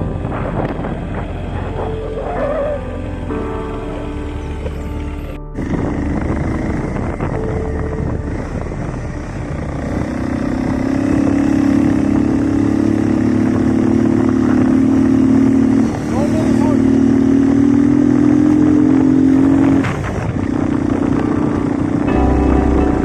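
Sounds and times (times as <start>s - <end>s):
motorcycle engine running: 3.8s - 23.0s.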